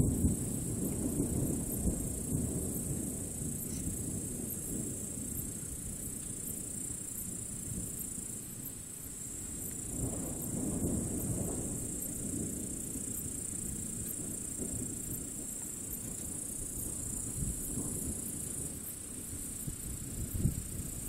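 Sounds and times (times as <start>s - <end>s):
thunder rumbling: 0.0s - 6.7s, 9.6s - 21.0s
crickets chirping: 0.0s - 21.0s.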